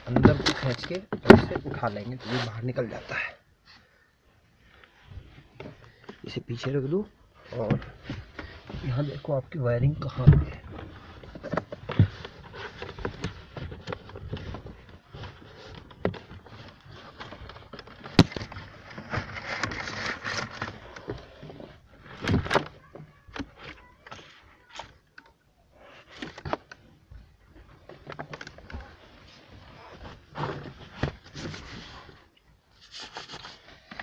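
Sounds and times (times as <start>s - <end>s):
rustling behind plastic trim: 0.0s - 3.9s, 4.6s - 34.0s.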